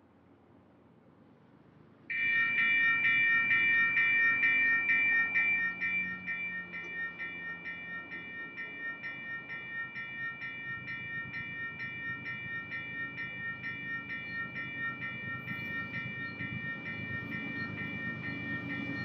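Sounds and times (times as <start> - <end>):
railroad bell ringing: 2.1 - 19.0
diesel locomotives rumbling: 2.3 - 19.0.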